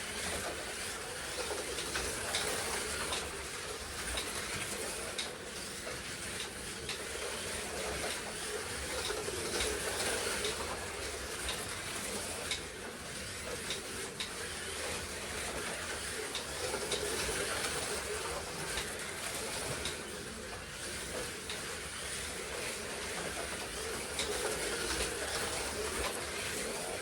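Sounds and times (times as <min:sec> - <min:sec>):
slot cars hissing and humming: 0:00.0 - 0:27.0.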